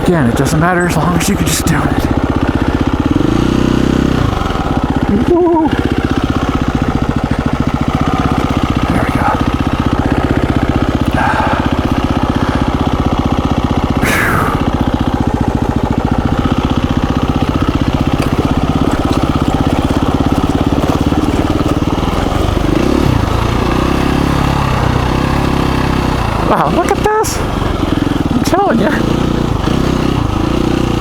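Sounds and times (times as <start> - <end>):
dirt bike engine at low revs: 0.0 - 31.0.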